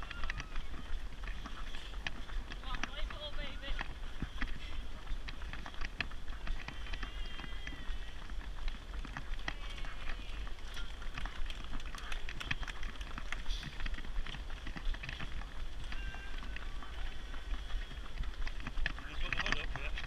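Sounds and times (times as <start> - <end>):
stroller wheels rattling: 0.0 - 20.0.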